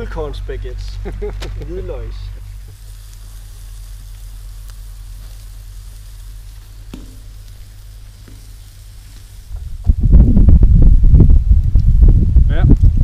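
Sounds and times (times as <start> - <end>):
meat sizzling on a grill: 0.9 - 13.0.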